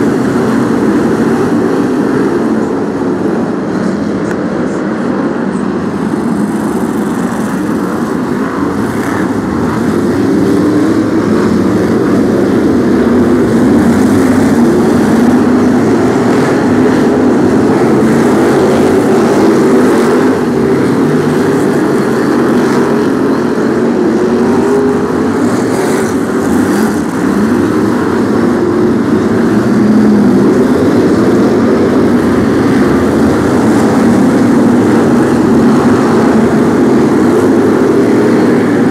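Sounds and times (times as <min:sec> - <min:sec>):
racing car engines droning: 0:00.0 - 0:38.9.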